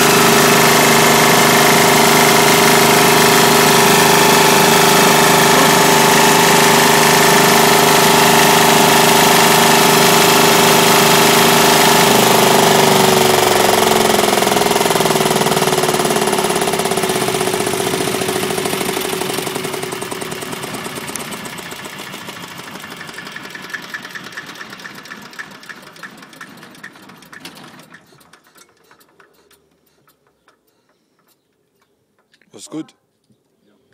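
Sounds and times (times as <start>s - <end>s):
diesel engine running: 0.0s - 28.0s
engine ticking: 0.0s - 31.4s.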